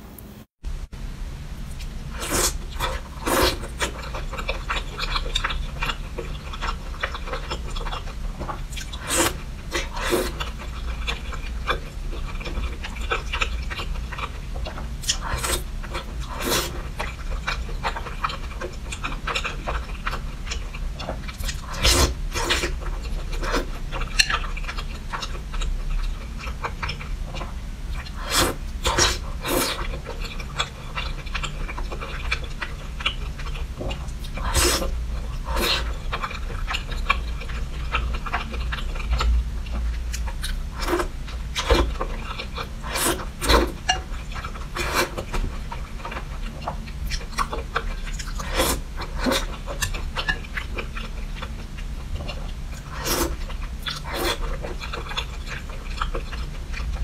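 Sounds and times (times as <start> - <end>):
low steady hum: 0.0 - 57.0
wet chewing and slurping: 1.7 - 57.0.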